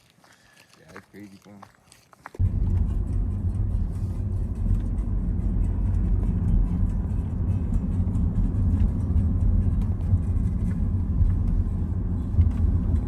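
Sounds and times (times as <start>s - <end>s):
car engine and road noise: 2.4s - 13.0s.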